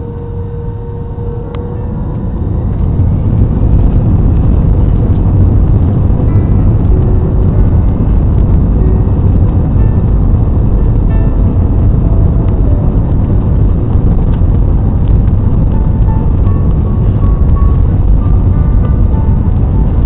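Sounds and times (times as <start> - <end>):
airliner engine and airflow rumble: 0.0 - 20.0.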